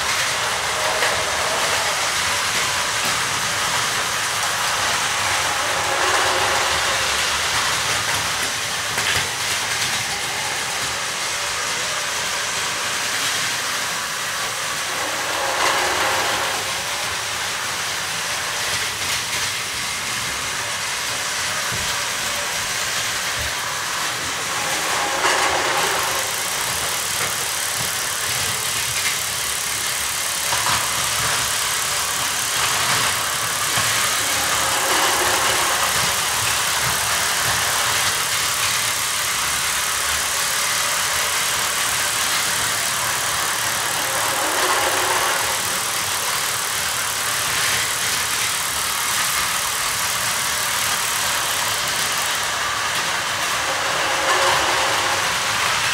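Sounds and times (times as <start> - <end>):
toy train motors whirring: 0.0 - 55.9.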